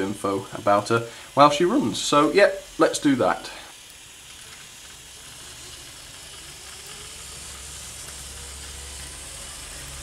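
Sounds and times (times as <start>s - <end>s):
model train electric motor hum: 0.0s - 10.0s.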